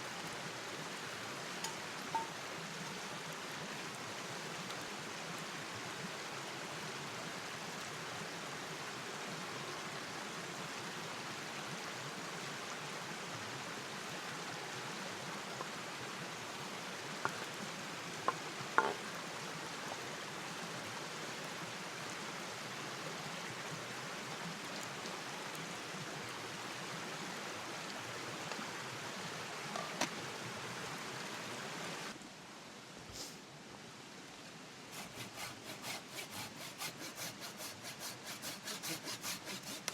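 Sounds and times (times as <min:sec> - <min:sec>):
watery hiss of rain: 0:00.0 - 0:35.8.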